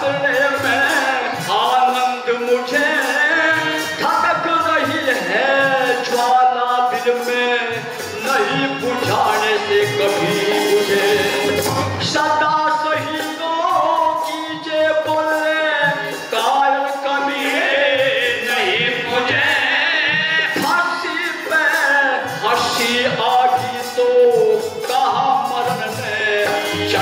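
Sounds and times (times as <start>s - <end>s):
dholak beat: 0.0s - 27.0s
harmonium melody: 0.0s - 27.0s.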